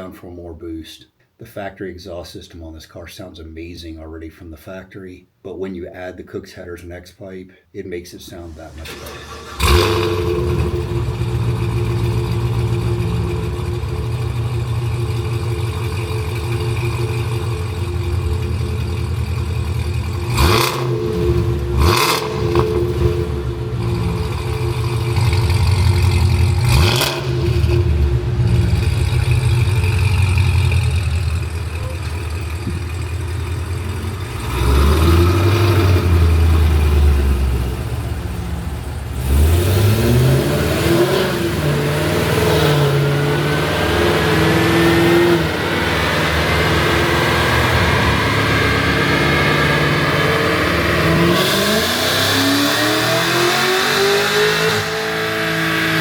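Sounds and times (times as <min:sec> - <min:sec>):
car accelerating hard: 0:08.4 - 0:56.0
car engine idling and revving: 0:08.4 - 0:56.0.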